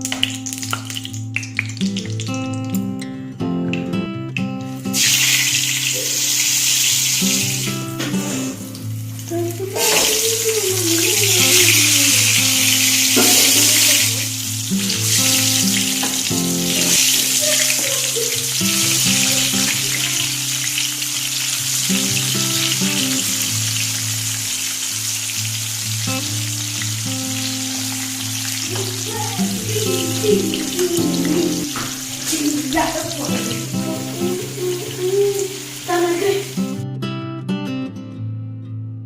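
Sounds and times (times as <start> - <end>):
food sizzling in hot oil: 0.0 - 2.8, 4.8 - 36.6.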